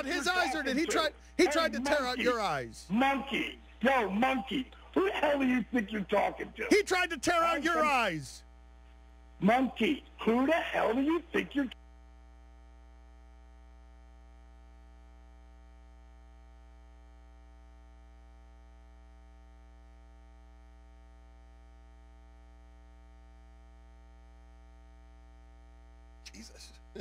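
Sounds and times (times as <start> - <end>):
buzzy electrical mains hum: 0.0 - 27.0.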